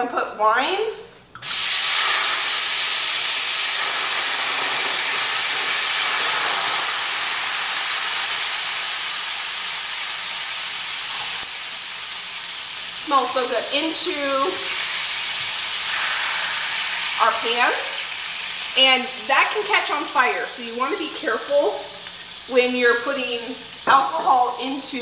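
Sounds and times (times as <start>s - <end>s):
wine sizzling in hot pan: 1.4s - 25.0s.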